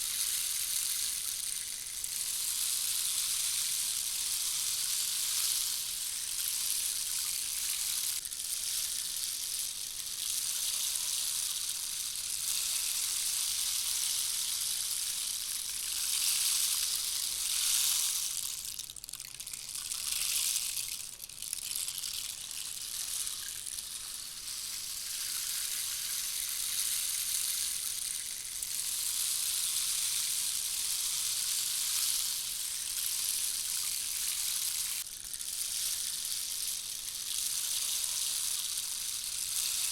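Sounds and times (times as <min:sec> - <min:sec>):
rainstick trickling hiss: 0:00.0 - 0:39.9.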